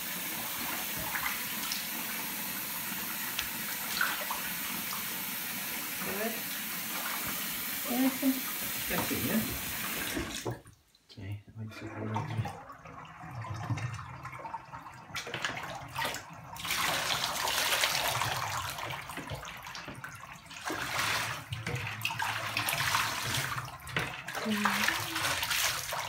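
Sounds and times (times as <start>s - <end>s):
water running in a bathtub: 0.0s - 26.0s.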